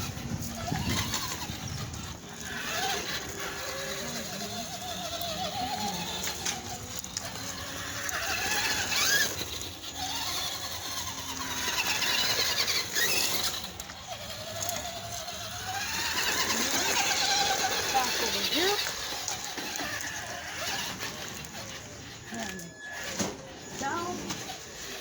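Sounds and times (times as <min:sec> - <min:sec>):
rc truck electric motor whining: 0:00.0 - 0:25.0.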